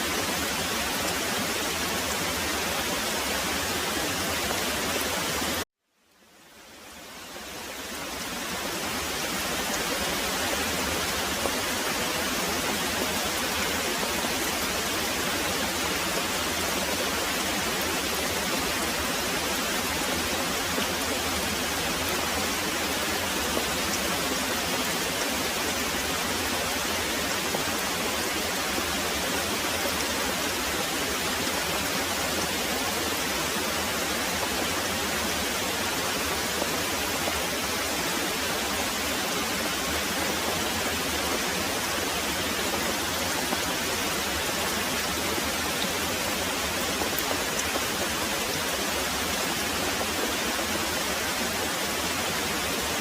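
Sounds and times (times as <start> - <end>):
very heavy rain: 0.0 - 53.0.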